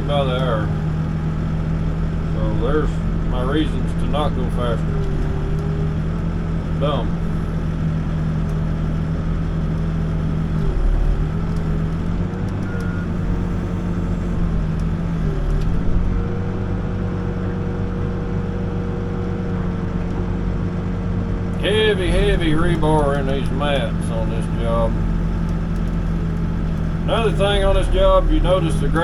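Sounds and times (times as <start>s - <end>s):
backhoe diesel engine running: 0.0s - 29.0s.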